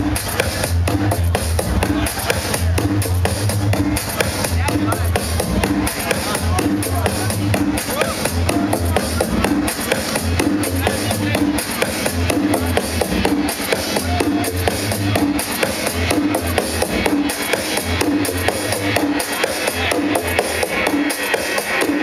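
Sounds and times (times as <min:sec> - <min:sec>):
electronic dance music: 0:00.0 - 0:22.0.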